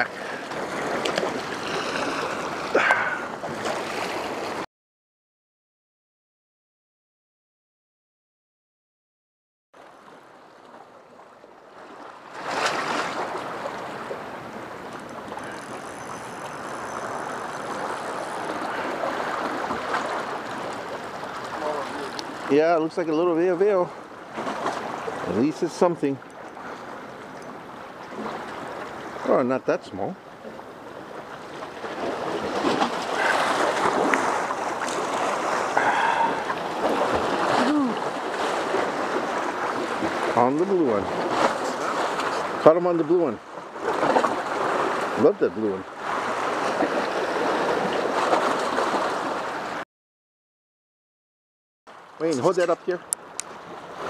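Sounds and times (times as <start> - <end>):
ocean waves at shoreline: 0.0 - 4.7, 9.8 - 49.8, 51.9 - 54.0.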